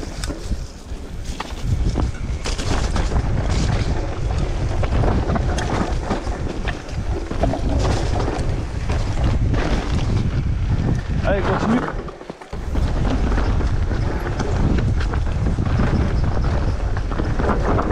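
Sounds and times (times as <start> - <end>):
bike clicks and rattles: 0.0 - 17.9
tyres on dirt and gravel: 0.0 - 17.9
wind rumbling on microphone: 0.0 - 17.9.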